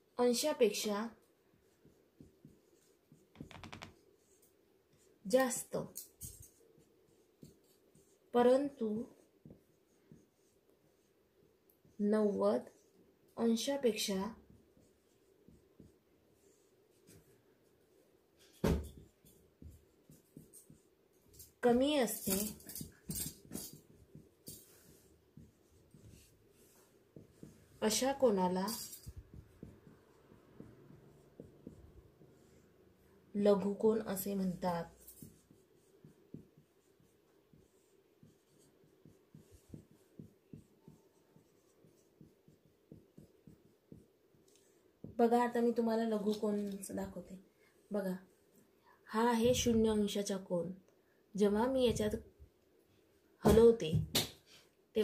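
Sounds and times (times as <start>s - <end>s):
marker writing on whiteboard: 0.2s - 47.2s.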